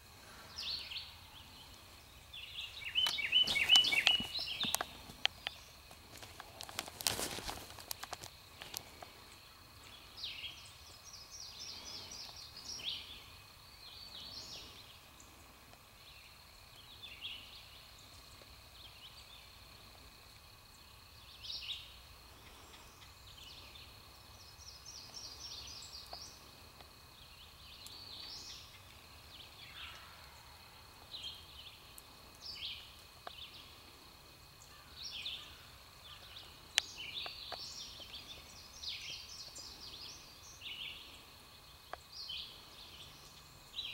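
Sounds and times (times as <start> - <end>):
faint high-pitched whine: 0.0 - 43.9
songbirds chirping: 0.0 - 43.9.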